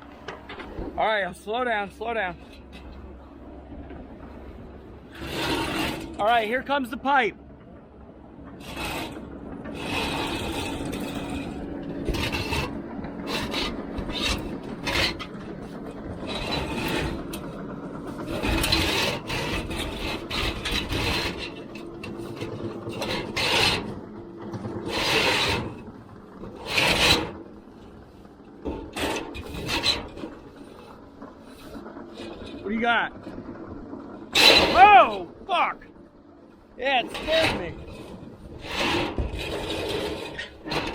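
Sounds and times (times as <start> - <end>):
steady low hum: 0.0 - 40.9
metal pipe scraping in chimney: 4.4 - 7.2, 8.6 - 35.7, 36.8 - 40.9.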